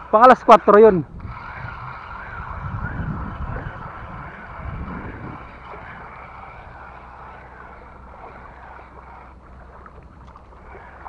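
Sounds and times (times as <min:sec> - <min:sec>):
wind rumbling on microphone: 0:00.8 - 0:11.0
water sloshing: 0:01.1 - 0:11.0.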